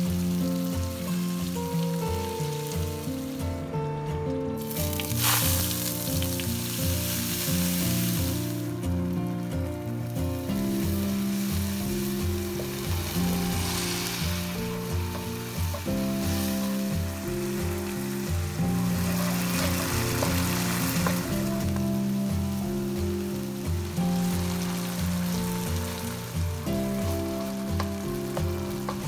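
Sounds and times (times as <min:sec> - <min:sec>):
paste sizzling in hot oil: 0:00.0 - 0:03.5, 0:04.6 - 0:29.0
background music: 0:00.0 - 0:29.0.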